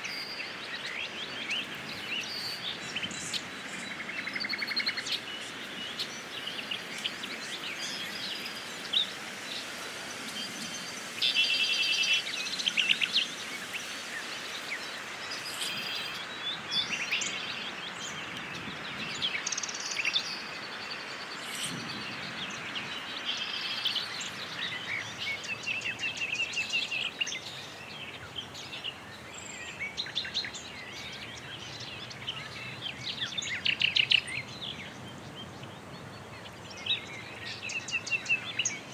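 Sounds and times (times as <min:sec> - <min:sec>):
outdoor background hiss: 0:00.0 - 0:38.9
small birds chirping: 0:00.0 - 0:38.9.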